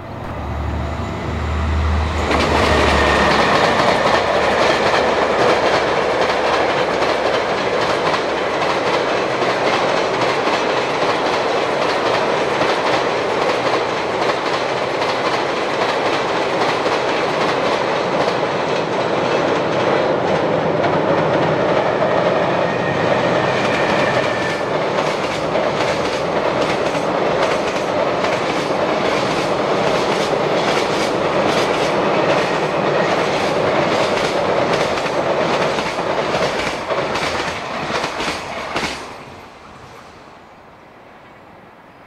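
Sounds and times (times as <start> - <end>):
train wheels clacking over rail joints: 2.2 - 39.2.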